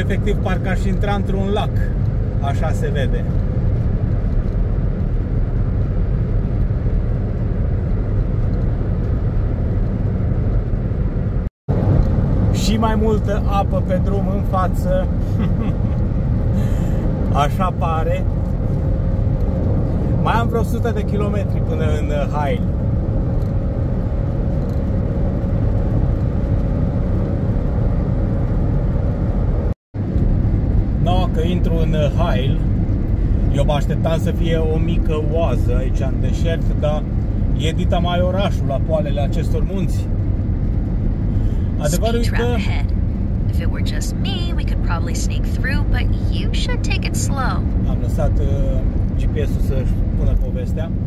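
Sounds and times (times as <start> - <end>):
car interior road rumble: 0.0 - 51.0.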